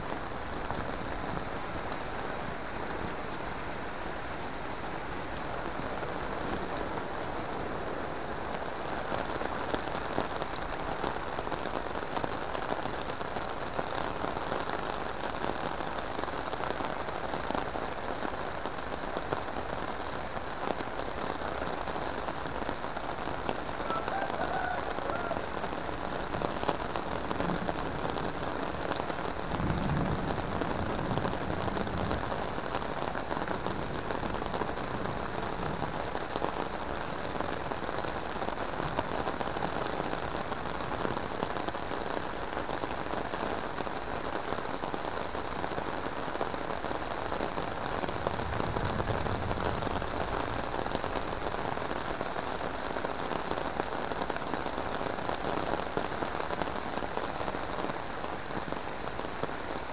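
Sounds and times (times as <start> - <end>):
heavy rain on puddles: 0.0 - 59.9
rain on metal roofs: 0.0 - 59.9.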